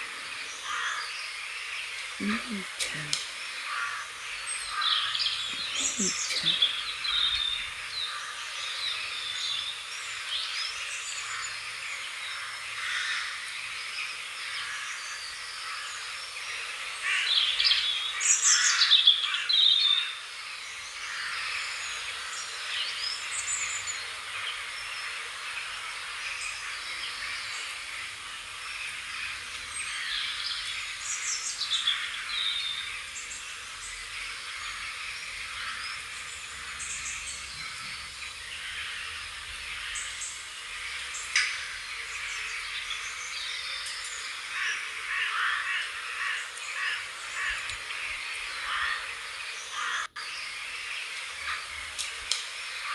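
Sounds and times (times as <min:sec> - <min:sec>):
birds chirping and singing: 0:00.0 - 0:52.9.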